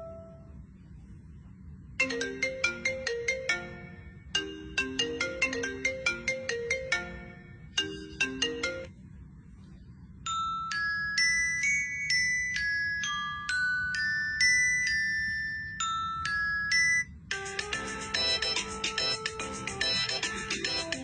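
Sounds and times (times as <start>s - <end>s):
phone ringtone plucked notes: 0.0s - 0.4s, 2.0s - 8.9s, 10.3s - 21.0s
chime-like ringtone melody: 0.0s - 0.5s, 2.0s - 8.9s, 10.3s - 21.0s.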